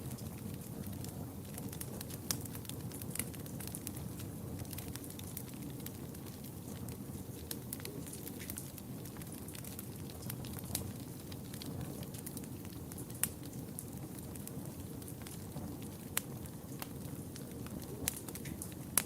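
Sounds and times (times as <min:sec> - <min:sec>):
fire crackling in fireplace: 0:00.0 - 0:19.0.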